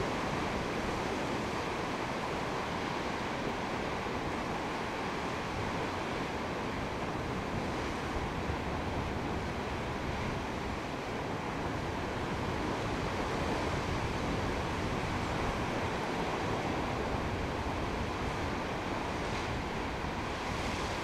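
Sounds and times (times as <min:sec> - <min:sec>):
ocean surf washing against cliffs: 0:00.0 - 0:21.0
wind rumbling on microphone: 0:00.0 - 0:21.0.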